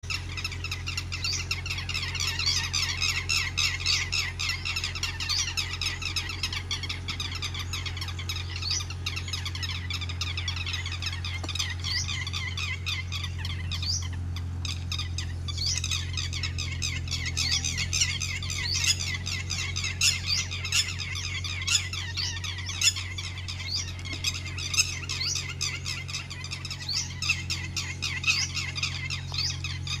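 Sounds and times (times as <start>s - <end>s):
many birds chirping: 0.0s - 30.0s
steady low hum: 0.0s - 30.0s.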